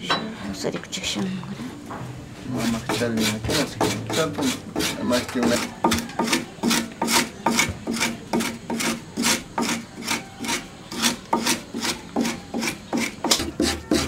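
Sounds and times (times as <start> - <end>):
wooden scraper rasping a leaf: 2.5 - 14.0.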